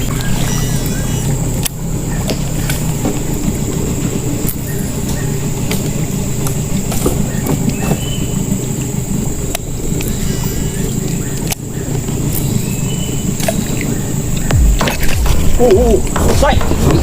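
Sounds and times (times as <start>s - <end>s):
boat motor droning: 0.0s - 17.0s
high-pitched whine: 0.0s - 17.0s.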